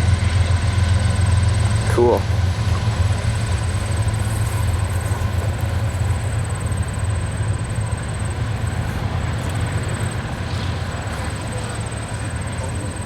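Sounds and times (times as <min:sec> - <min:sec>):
train diesel rumble: 0:00.0 - 0:13.0.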